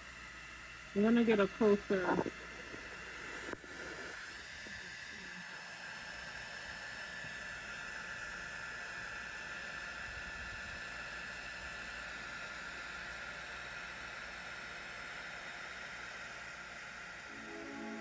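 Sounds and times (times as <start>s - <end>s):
heat gun fan whine and hiss: 0.0s - 18.0s.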